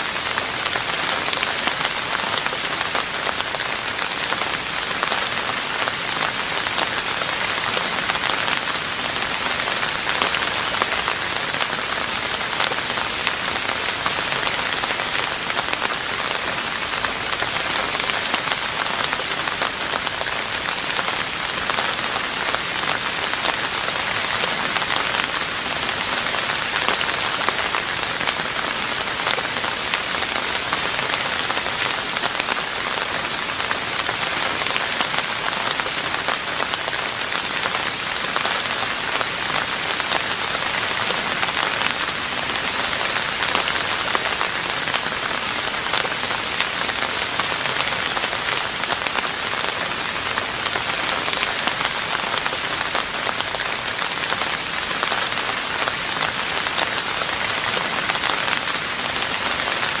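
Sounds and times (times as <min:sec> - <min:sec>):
rain falling on a roof: 0:00.0 - 1:00.0.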